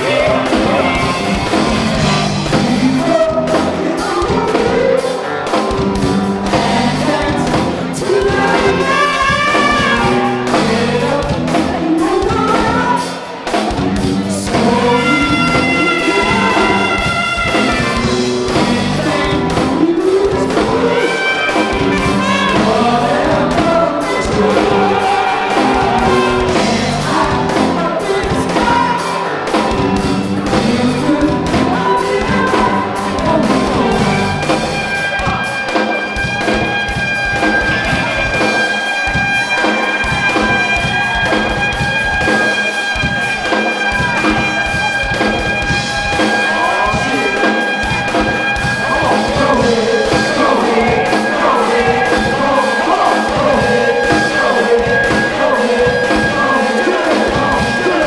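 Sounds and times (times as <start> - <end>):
live band music: 0.0 - 58.0
person singing: 0.0 - 58.0.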